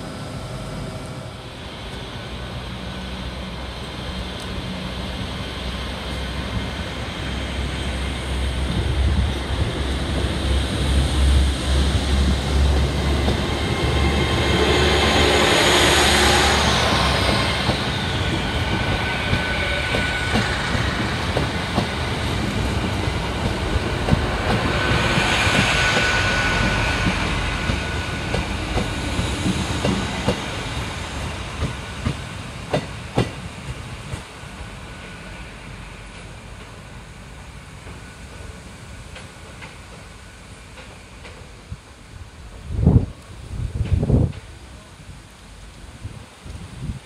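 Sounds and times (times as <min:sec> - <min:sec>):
train engine rumble: 0:00.0 - 0:47.0.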